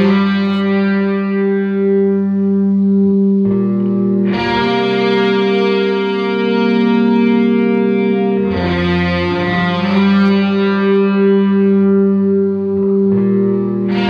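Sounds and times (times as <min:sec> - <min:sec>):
effected guitar chords: 0:00.0 - 0:14.0.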